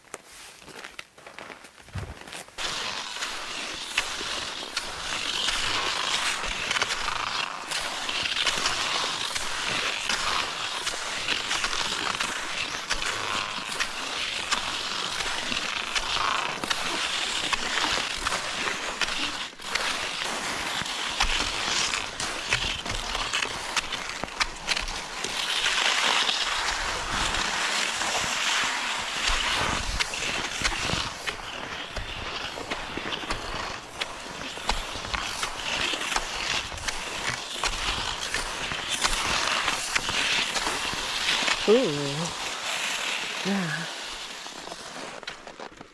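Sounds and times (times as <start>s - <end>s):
sharp ski clicks: 0.9s - 45.9s
skis hissing on snow: 2.0s - 45.9s.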